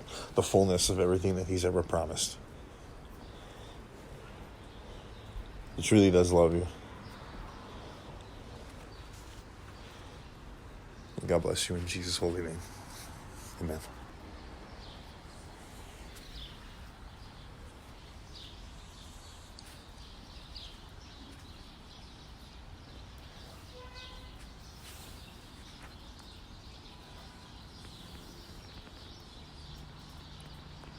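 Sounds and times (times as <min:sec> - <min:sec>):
bird chirps: 0:00.0 - 0:30.9
outdoor background noise: 0:00.0 - 0:30.9.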